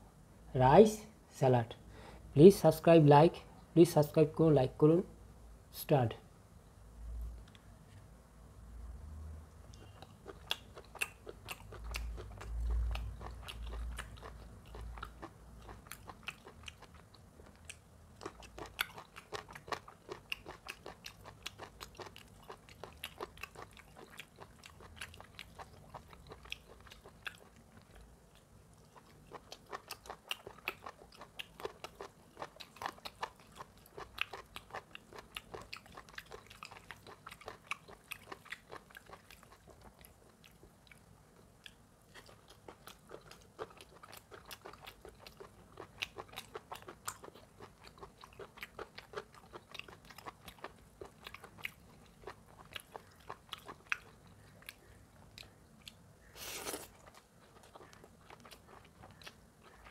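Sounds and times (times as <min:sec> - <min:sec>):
chewing and mouth smacks: 0:09.7 - 0:59.9.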